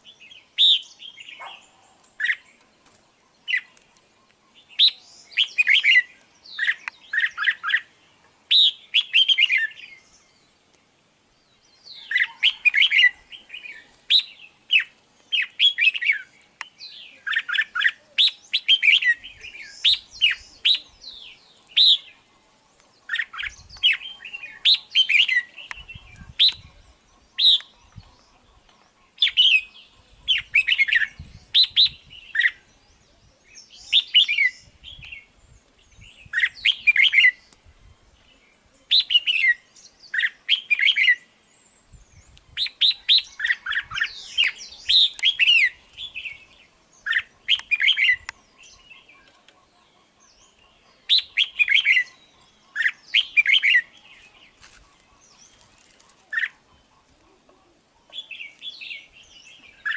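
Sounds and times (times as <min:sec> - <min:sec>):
bird chirping song: 0:00.0 - 0:59.9.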